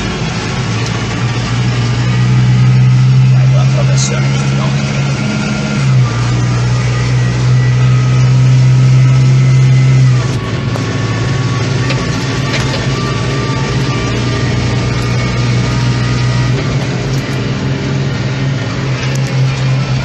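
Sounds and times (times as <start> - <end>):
diesel engine drone: 0.0 - 20.0.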